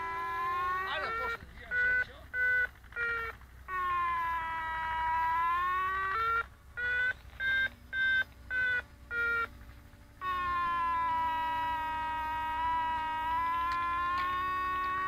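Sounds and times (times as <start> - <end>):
steady electronic tone: 0.0 - 15.0.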